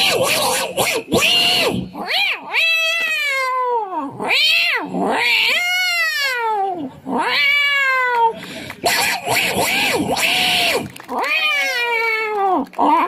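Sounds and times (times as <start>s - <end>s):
man imitating cat yowls: 0.0s - 13.0s.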